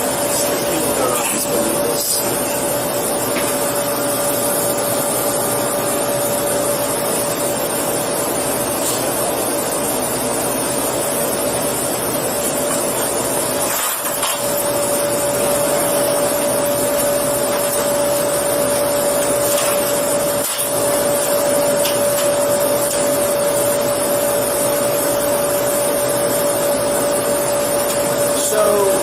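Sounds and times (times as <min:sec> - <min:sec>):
mid-pitched machine hum: 0:00.0 - 0:29.0.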